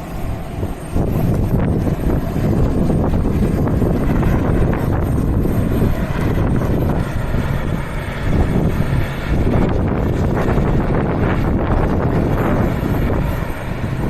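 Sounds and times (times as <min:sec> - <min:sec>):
turboprop engines and propellers running: 0:00.0 - 0:14.0
wind buffeting microphone: 0:00.0 - 0:14.0.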